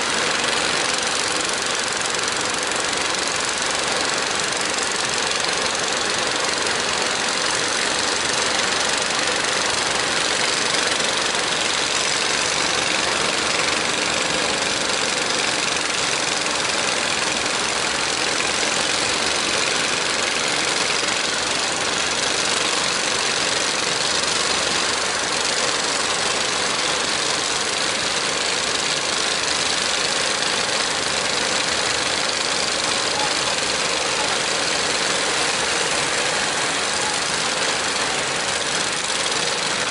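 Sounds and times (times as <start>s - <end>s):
boat diesel engines chugging: 0.0s - 39.9s
rushing water: 0.0s - 39.9s
wind: 0.0s - 39.9s.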